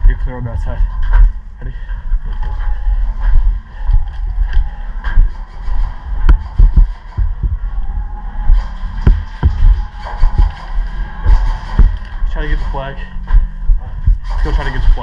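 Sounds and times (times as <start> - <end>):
footsteps with gear thudding: 0.9 - 15.0.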